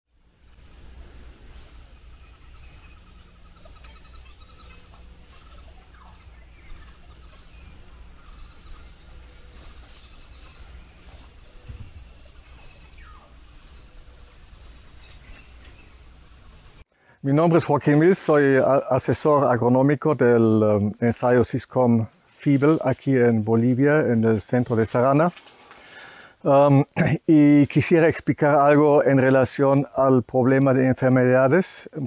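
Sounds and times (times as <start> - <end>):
insects singing high-pitched: 0.1 - 32.0.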